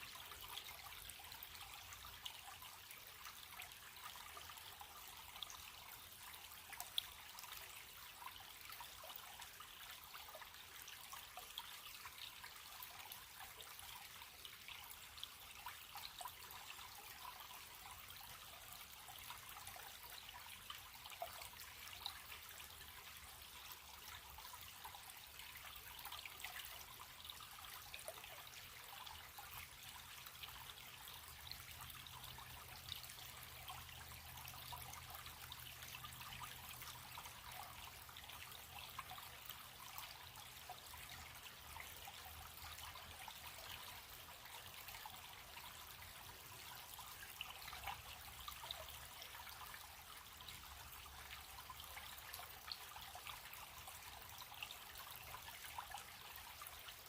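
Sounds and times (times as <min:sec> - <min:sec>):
small splashes and drips: 0:00.0 - 0:57.0.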